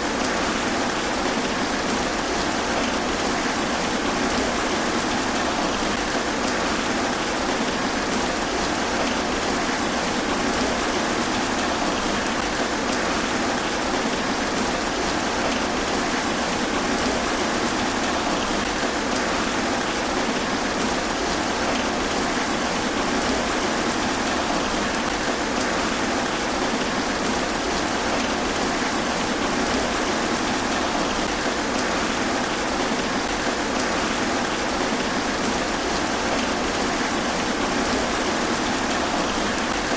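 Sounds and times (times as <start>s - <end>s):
rain falling through foliage: 0.0s - 39.9s.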